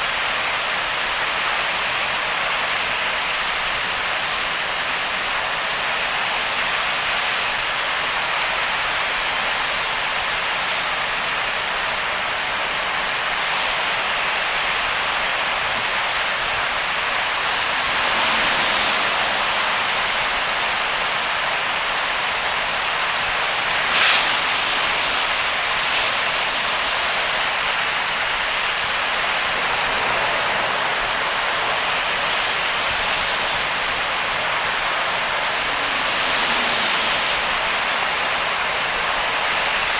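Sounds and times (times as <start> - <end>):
heavy rain and tyre spray: 0.0 - 39.9.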